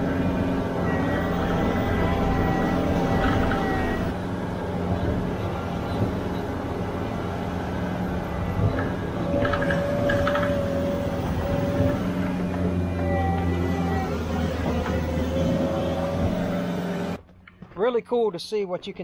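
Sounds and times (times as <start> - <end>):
heavy equipment engine running: 0.0 - 17.2
steady whine: 0.0 - 17.2.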